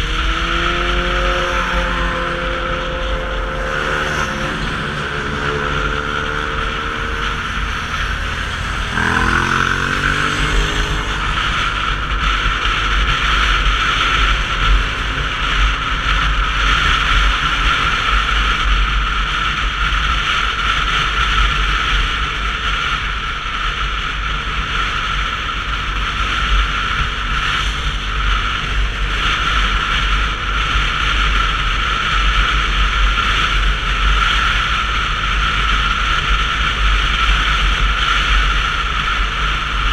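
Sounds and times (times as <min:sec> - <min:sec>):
motorcycle engine accelerating: 0:00.0 - 0:39.9
road noise: 0:00.0 - 0:39.9
wind rushing over microphone: 0:00.0 - 0:39.9.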